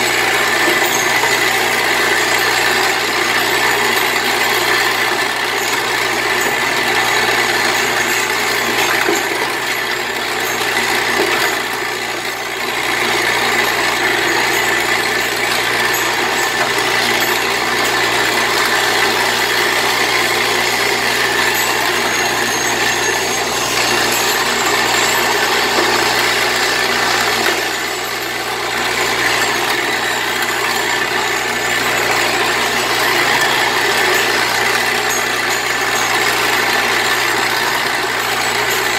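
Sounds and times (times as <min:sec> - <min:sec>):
vibratory bowl feeder buzzing: 0:00.0 - 0:38.9.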